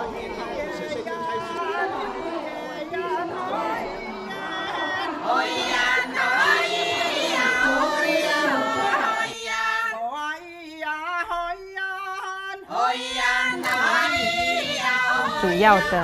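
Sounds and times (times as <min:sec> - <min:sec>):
voices chattering and singing: 0:00.0 - 0:16.0.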